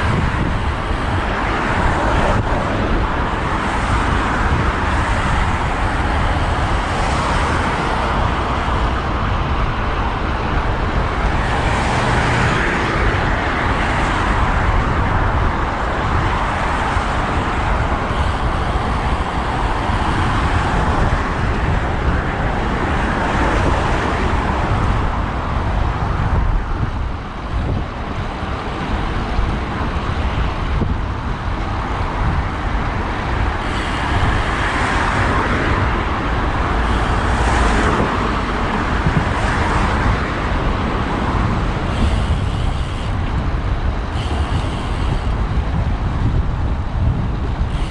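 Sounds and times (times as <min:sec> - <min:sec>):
cars passing: 0:00.0 - 0:47.9
wind rushing over microphone: 0:00.0 - 0:47.9.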